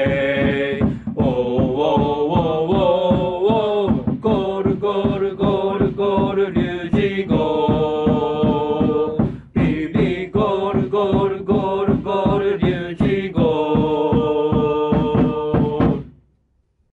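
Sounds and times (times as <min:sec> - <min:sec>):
crowd chanting in unison: 0:00.0 - 0:16.0
steady drum beat: 0:00.0 - 0:16.2.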